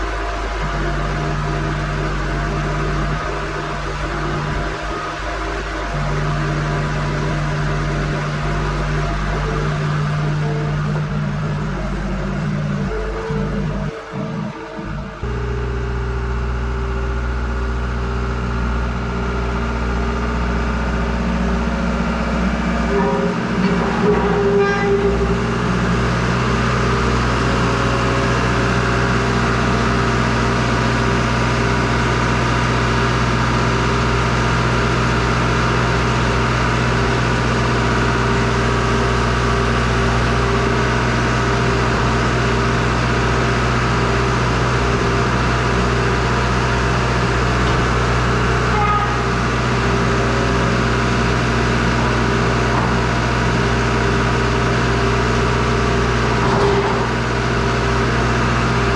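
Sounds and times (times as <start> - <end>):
loader engine running: 0.0 - 58.9.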